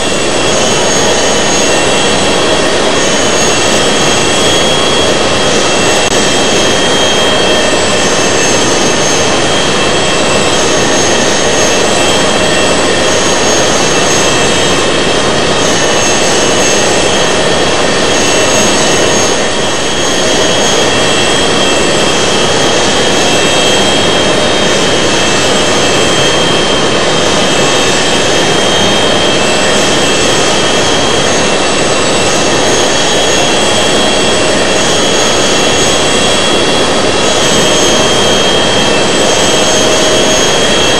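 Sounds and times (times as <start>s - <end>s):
jet engines rushing in cabin: 0.0s - 40.9s.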